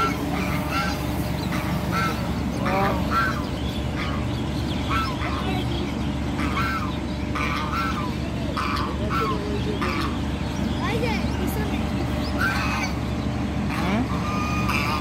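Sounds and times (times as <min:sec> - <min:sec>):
ducks quacking: 0:00.0 - 0:15.0
low rumble: 0:00.0 - 0:15.0.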